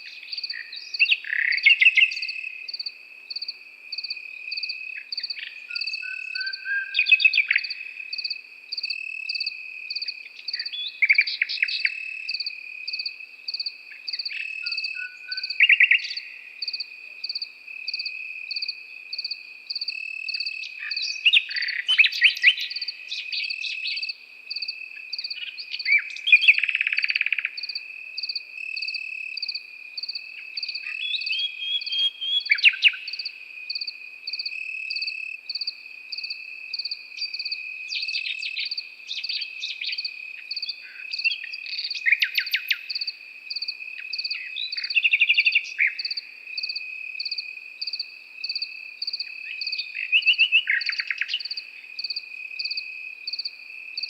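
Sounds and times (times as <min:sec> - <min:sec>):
insect chirping in a pulse: 0:00.0 - 0:54.0
nightingale singing: 0:00.0 - 0:54.0.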